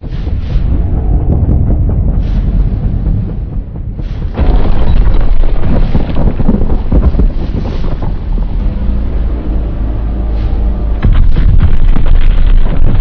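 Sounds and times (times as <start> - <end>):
deep monster rumbling: 0.0 - 13.0.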